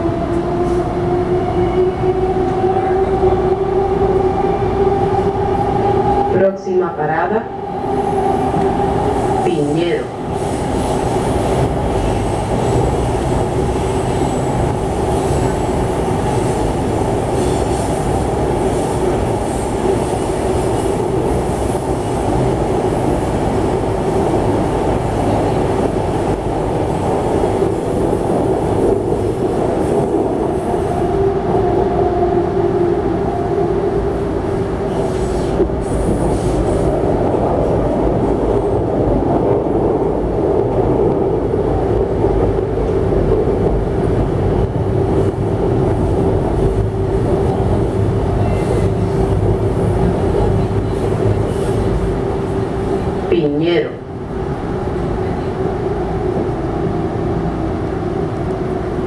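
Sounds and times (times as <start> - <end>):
constant train whine: 0.0 - 59.0
train wheels rumbling on rail: 0.0 - 59.0.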